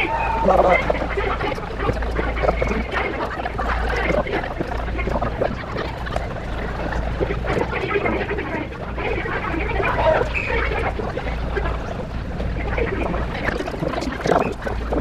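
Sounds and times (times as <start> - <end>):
crowd chattering and shouting: 0.0 - 15.0.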